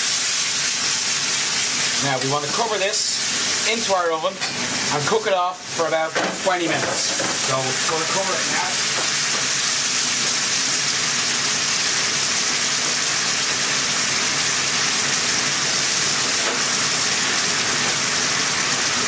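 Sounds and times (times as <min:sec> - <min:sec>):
food sizzling in a hot pan: 0:00.0 - 0:19.0.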